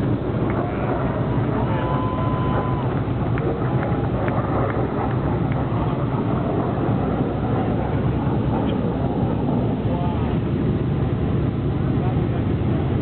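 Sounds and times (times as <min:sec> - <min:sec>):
aircraft engines rumbling overhead: 0:00.0 - 0:13.0.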